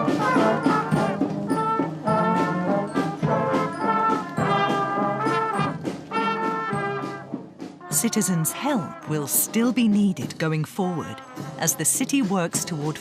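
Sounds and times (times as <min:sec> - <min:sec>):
brass instruments playing melody: 0:00.0 - 0:10.3, 0:10.9 - 0:13.0.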